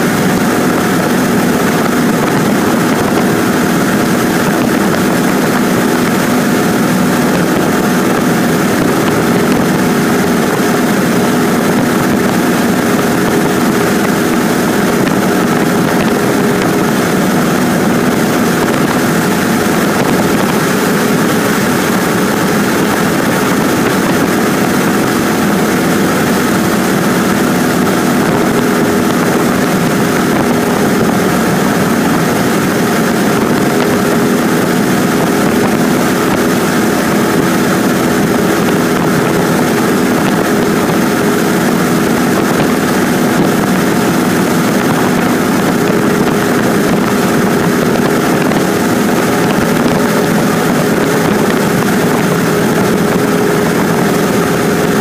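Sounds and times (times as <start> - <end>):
airplane engine and propeller droning: 0.0 - 55.0
rush of wind noise: 0.0 - 55.0.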